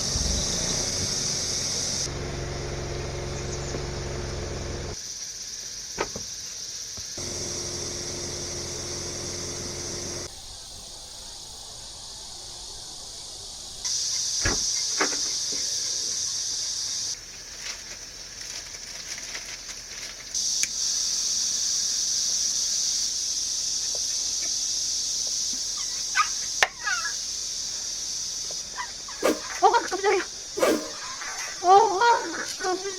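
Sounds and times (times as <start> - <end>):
high-pitched insect chorus: 0.0 - 2.1, 3.2 - 3.9, 4.6 - 32.9.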